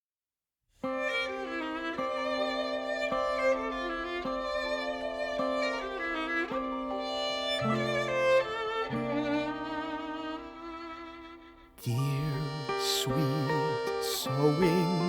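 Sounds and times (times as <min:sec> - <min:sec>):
violin melody: 0:00.8 - 0:15.0.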